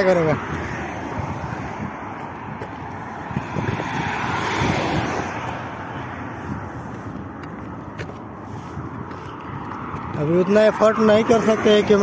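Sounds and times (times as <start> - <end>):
road traffic hissing past: 0.1 - 12.0.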